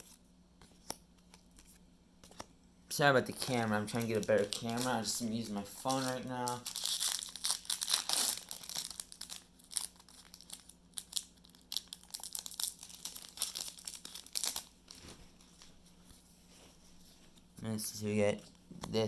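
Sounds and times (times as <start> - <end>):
card packaging crinkling: 0.0 - 15.8.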